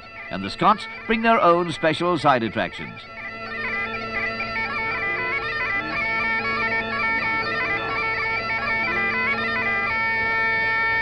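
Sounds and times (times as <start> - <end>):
bagpipe drones: 0.0 - 11.0
bagpipes playing quick melody: 0.0 - 11.0.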